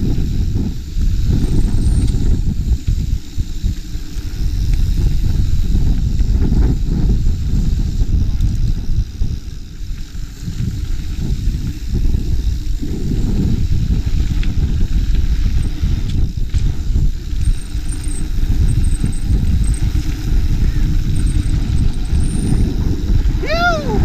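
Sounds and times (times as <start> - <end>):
bike tyres rolling on dirt: 0.0 - 24.0
wind buffeting microphone: 0.0 - 24.0.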